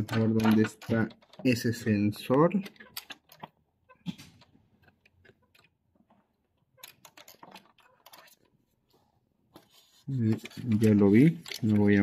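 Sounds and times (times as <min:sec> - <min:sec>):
plastic printer parts clicking: 0:00.0 - 0:08.5, 0:09.6 - 0:12.0.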